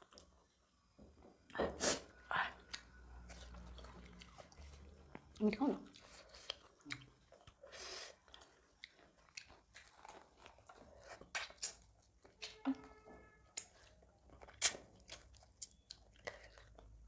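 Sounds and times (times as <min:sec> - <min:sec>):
people chewing: 0:02.3 - 0:17.0.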